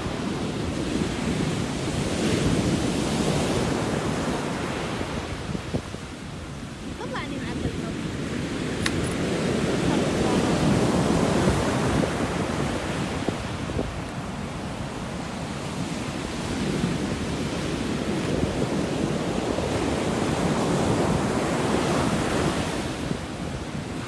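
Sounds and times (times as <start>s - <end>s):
sea waves rushing: 0.0s - 24.0s.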